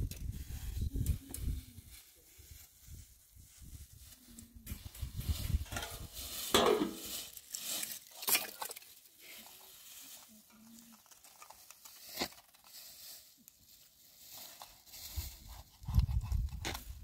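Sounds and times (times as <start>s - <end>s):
plastic bag rustling: 1.6s - 15.9s.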